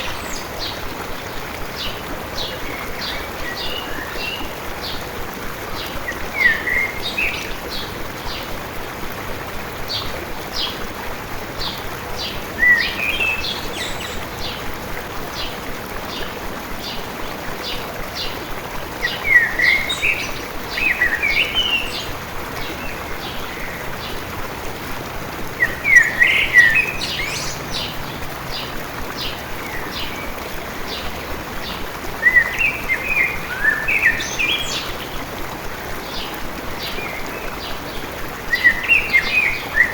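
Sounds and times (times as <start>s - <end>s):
flowing stream: 0.0s - 39.9s
songbirds chirping: 0.0s - 39.9s.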